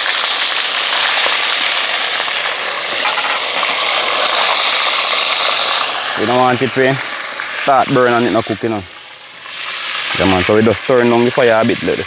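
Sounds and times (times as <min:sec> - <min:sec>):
oil sizzling in deep fryer: 0:00.0 - 0:12.0.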